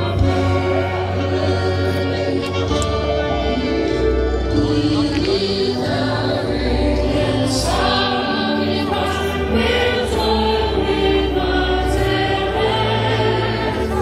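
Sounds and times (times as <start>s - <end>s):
bass accompaniment: 0.0s - 14.0s
choir singing held chords: 0.0s - 14.0s.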